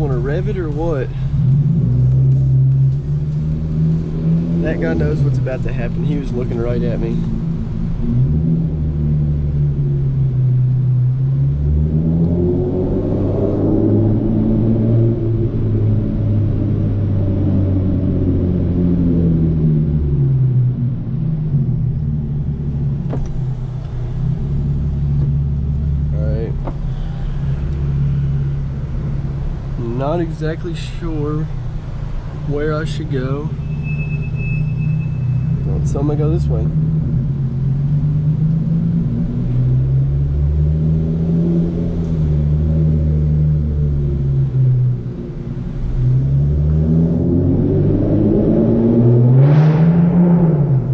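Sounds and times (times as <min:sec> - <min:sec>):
car exhaust droning at low revs: 0:00.0 - 0:50.9.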